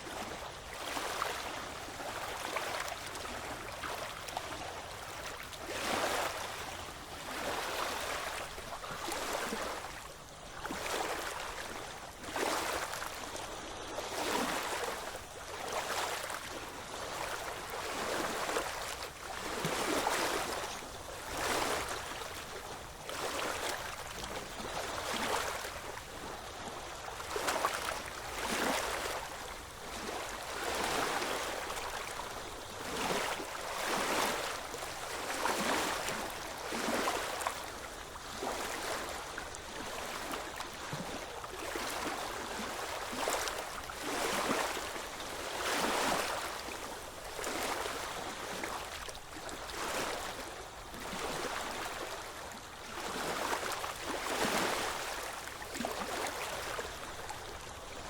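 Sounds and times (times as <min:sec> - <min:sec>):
small ocean waves washing in: 0:00.0 - 0:58.0.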